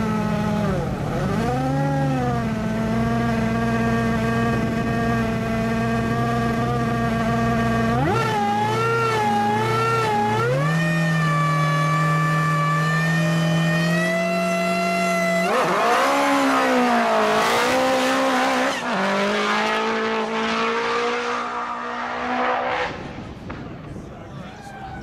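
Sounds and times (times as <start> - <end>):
race car engine revving: 0.0 - 23.6.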